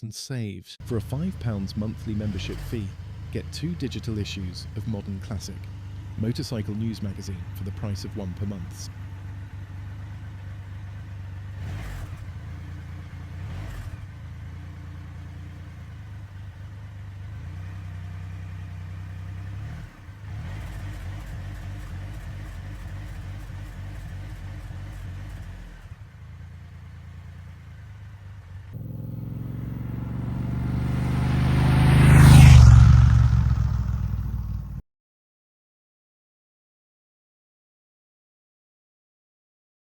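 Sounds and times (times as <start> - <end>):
vehicle engine running: 0.8 - 34.8.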